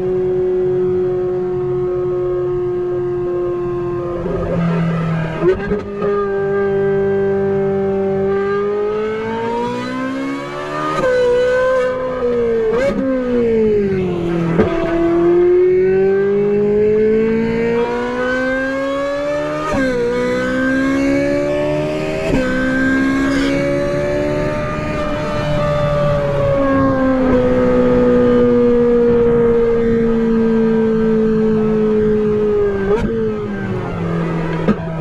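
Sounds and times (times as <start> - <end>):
sports car engine at full throttle: 0.0 - 35.0.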